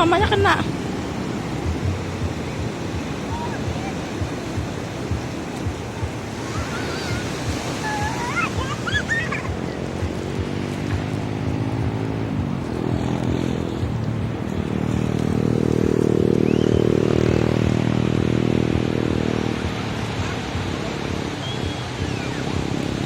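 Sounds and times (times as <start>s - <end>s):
vehicle engine passing by: 0.0s - 23.0s.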